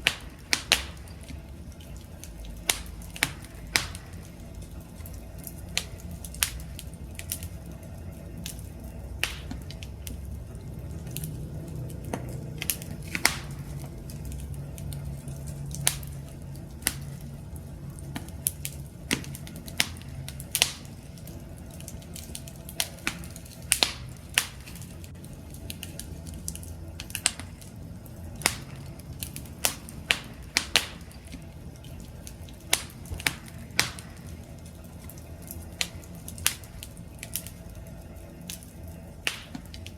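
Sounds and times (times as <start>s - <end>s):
campfire crackling: 0.0s - 39.9s
rush of flames: 0.0s - 39.9s
sharp pops and snaps: 0.0s - 39.9s.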